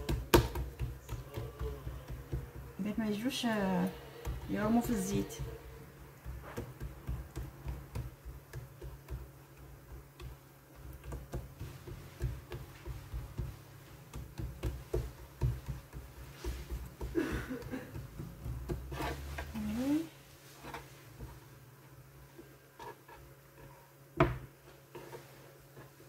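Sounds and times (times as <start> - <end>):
hands patting dough on board: 0.0 - 20.0, 22.3 - 26.0.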